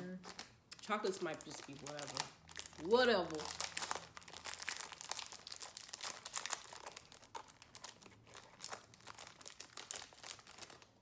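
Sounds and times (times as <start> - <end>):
snack wrapper crinkling: 0.2 - 11.0.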